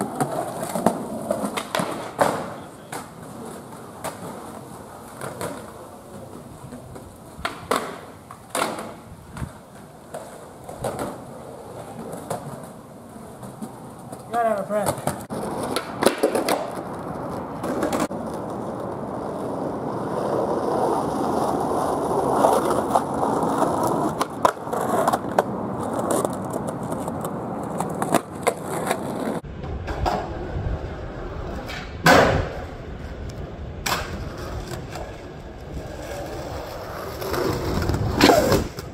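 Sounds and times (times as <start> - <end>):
skateboard clacking on ground: 0.0 - 38.9
skateboard wheels rolling: 0.0 - 38.9.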